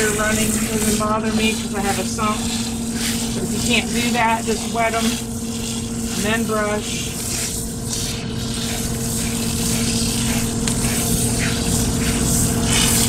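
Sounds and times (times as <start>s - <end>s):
brush rubbing wet fur: 0.0s - 13.0s
pump humming: 0.0s - 13.0s
water hissing: 0.0s - 13.0s.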